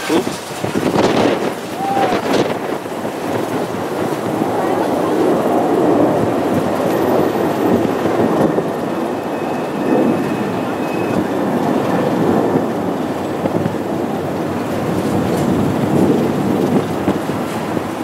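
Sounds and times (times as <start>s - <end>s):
jet engines rumbling: 0.0s - 18.0s
faint high jet whine: 1.6s - 16.2s.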